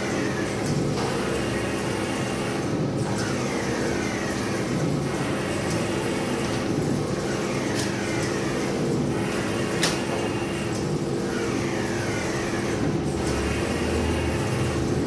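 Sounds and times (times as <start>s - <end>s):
printer machine hum: 0.0s - 15.0s.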